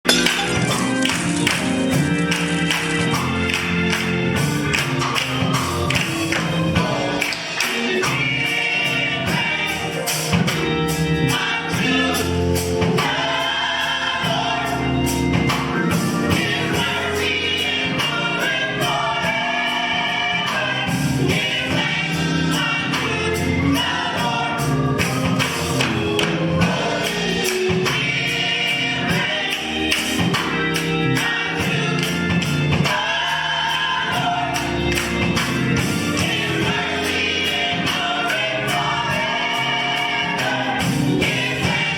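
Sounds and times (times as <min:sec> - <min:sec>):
band playing: 0:00.0 - 0:41.9
gospel choir singing: 0:00.0 - 0:41.9
tambourine beat: 0:00.0 - 0:41.9.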